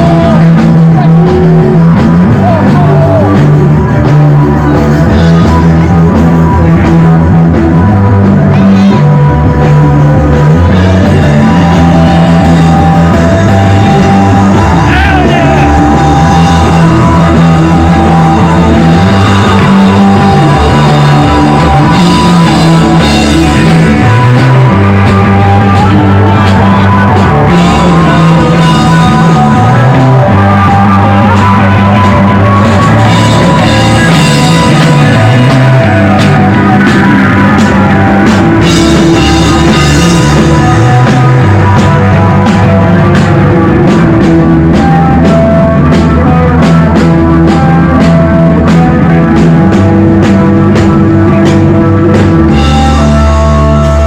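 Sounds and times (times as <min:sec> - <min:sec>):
rock music with guitar and drums: 0:00.0 - 0:54.0.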